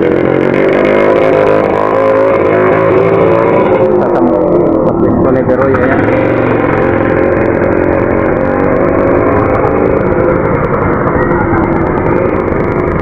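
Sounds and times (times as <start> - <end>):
truck engine passing: 0.0 - 13.0.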